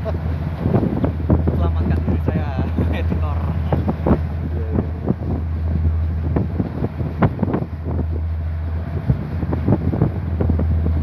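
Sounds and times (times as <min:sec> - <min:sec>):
ship low drone: 0:00.0 - 0:11.0
water rushing along hull: 0:00.0 - 0:11.0
wind buffeting microphone: 0:00.0 - 0:11.0.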